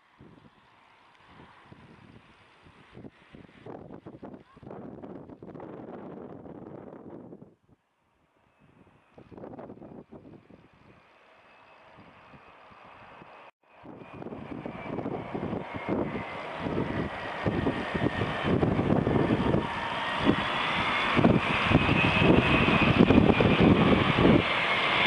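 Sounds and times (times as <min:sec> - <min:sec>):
high engine whine: 0:00.0 - 0:25.0
jet engines on approach: 0:00.0 - 0:25.0.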